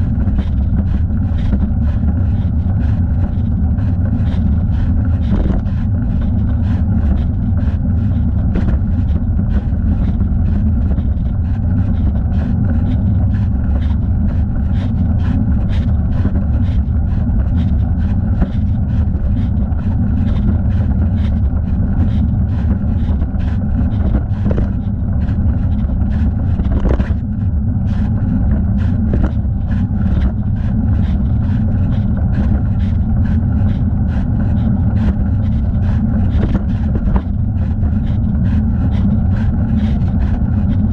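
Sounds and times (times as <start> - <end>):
bike riding noise: 0.0 - 40.9.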